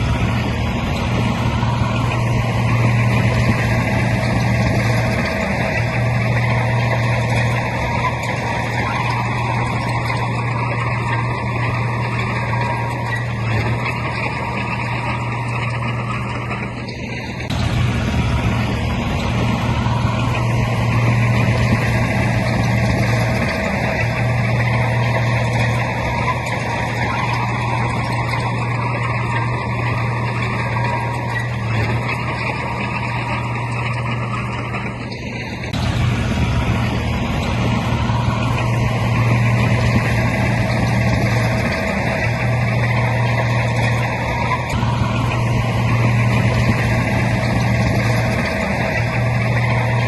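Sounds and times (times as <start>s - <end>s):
diesel machinery engine drone: 0.0s - 50.0s.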